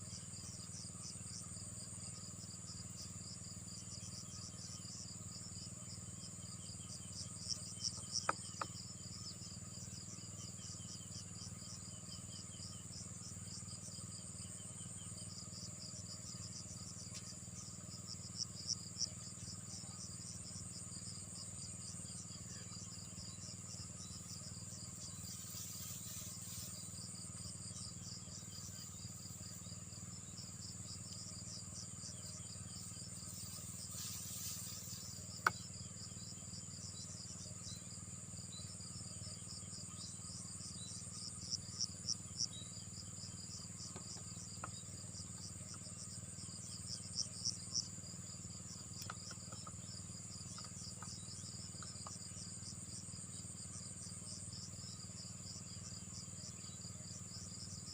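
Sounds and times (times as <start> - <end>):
insects chirping and trilling: 0.0 - 57.9.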